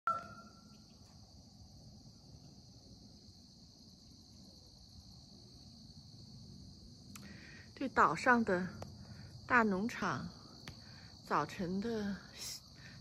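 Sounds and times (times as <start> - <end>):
crickets chirping: 0.1 - 13.0.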